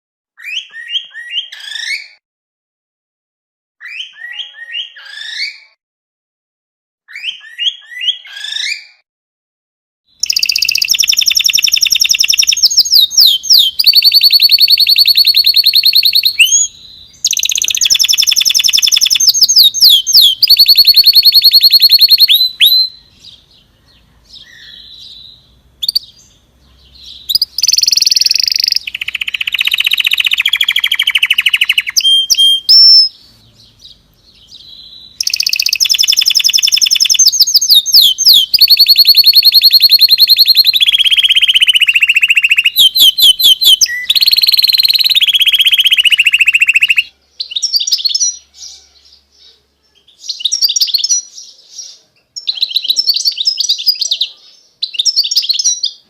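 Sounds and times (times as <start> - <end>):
songbird singing trills: 3.8 - 5.8, 10.2 - 56.0.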